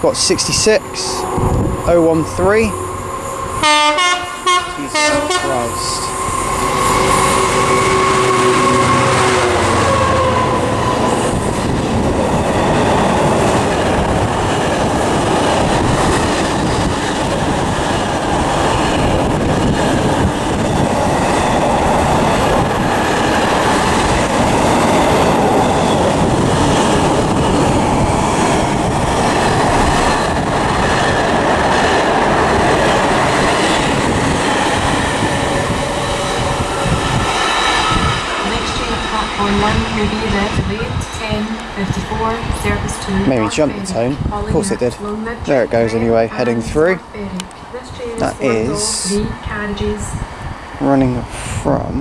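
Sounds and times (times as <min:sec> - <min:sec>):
train wheels on rails: 0:00.0 - 0:45.7.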